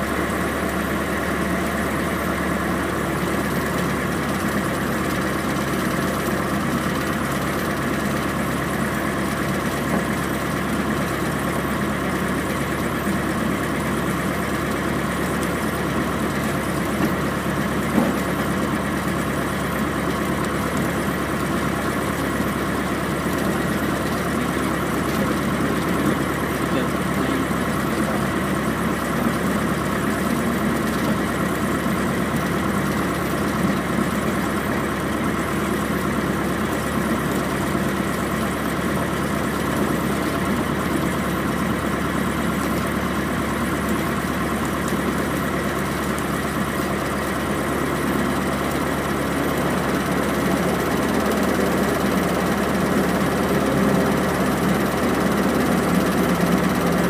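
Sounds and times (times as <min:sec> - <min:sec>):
small plane piston engine idling: 0:00.0 - 0:57.0.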